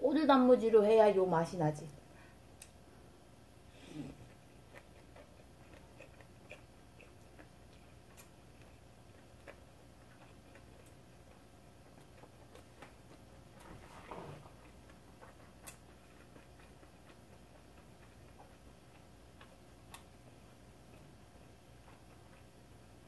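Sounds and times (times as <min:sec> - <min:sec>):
room hum: 0:00.0 - 0:23.0
faint chewing: 0:03.6 - 0:23.0.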